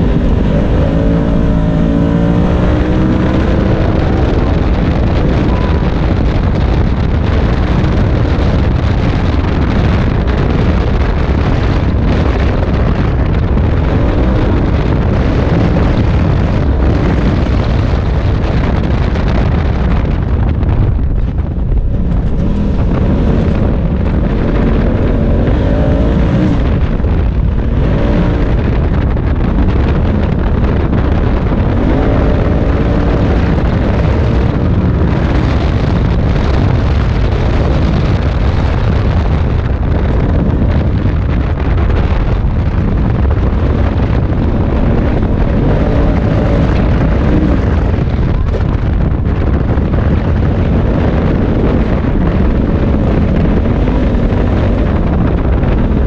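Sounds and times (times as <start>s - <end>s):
off-road vehicle engine revving: 0.0s - 20.7s, 21.4s - 56.0s.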